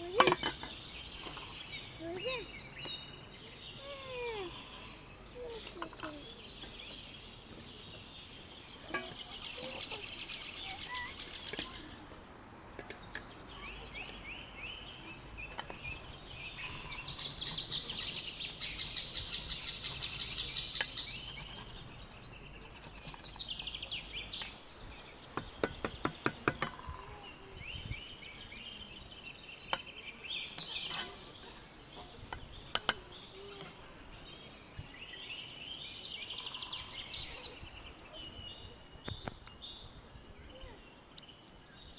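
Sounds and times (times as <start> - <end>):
birds trilling: 0.0 - 38.2.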